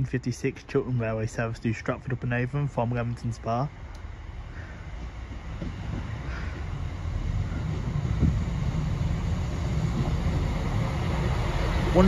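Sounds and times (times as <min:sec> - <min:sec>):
diesel train approaching: 0:00.0 - 0:12.0.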